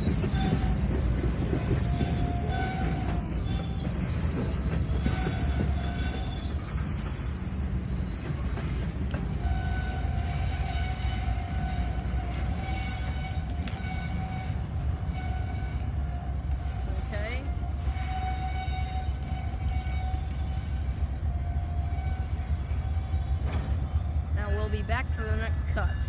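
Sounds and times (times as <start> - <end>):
steel wheels squealing on rail: 0.0 - 26.0
train cars rumbling: 0.0 - 26.0.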